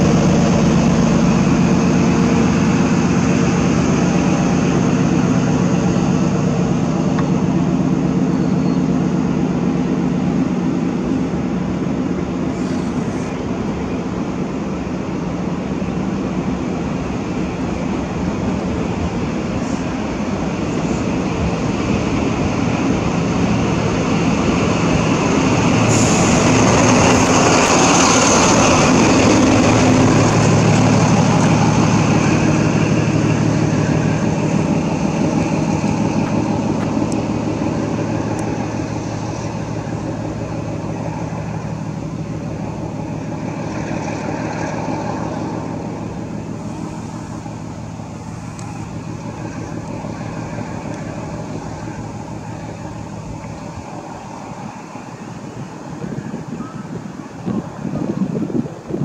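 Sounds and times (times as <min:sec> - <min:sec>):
diesel train engine hum: 0:00.0 - 0:59.0.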